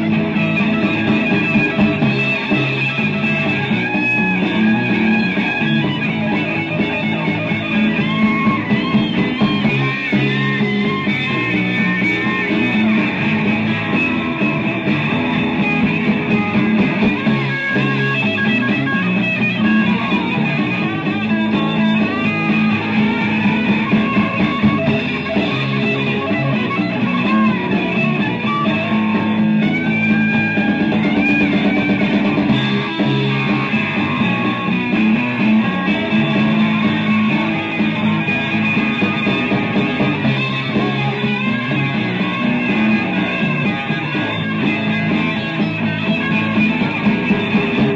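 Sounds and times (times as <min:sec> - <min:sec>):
instrumental rock music: 0:00.0 - 0:47.9.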